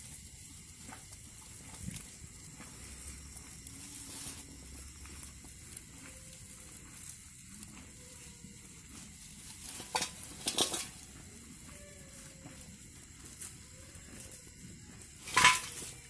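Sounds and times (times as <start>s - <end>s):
dry fodder rustling: 0.0s - 16.0s
lambs chewing dry stalks: 0.0s - 16.0s.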